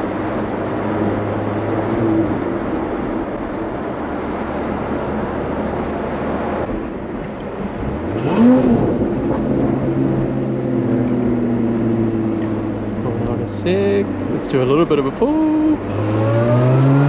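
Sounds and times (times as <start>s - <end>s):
car engine cruising: 0.0s - 17.0s
tyre and road noise: 0.0s - 17.0s.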